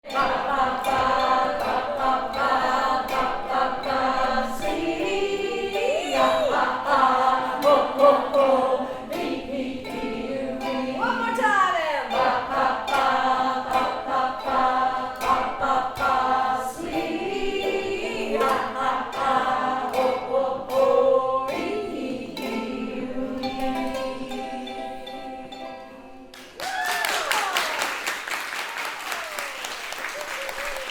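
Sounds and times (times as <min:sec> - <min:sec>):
music with singing voices: 0:00.0 - 0:26.5.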